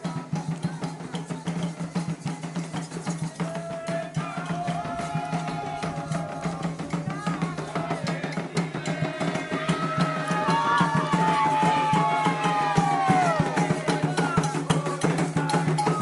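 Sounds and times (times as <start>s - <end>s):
hand drums beating: 0.0s - 16.0s
voices chanting a song: 0.0s - 16.0s.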